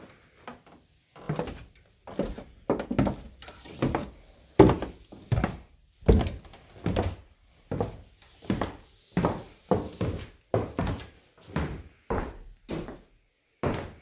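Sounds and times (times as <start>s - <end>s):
footsteps on wooden floor: 0.4s - 14.0s.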